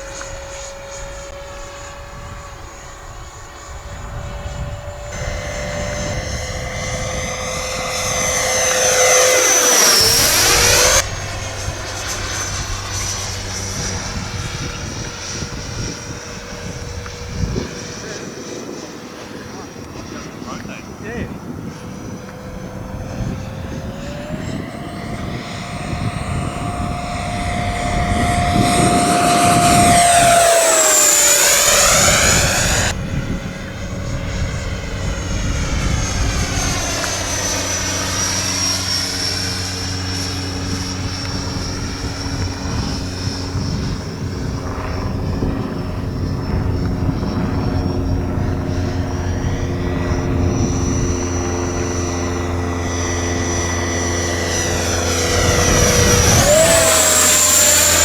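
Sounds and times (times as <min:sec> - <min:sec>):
model jet fan whining: 0:00.0 - 0:58.0.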